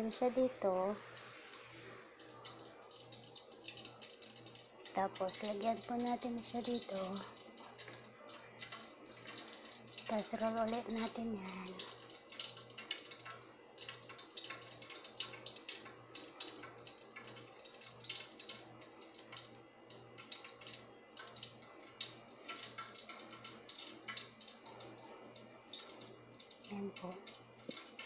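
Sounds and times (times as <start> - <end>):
oil crackling in a pan: 0.0 - 28.0.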